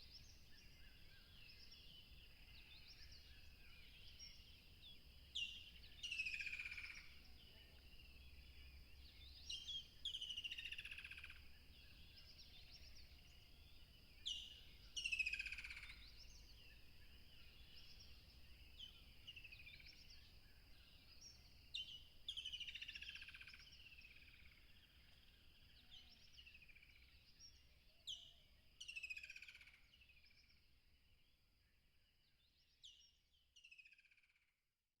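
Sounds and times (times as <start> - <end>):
songbird singing: 0.0 - 34.5.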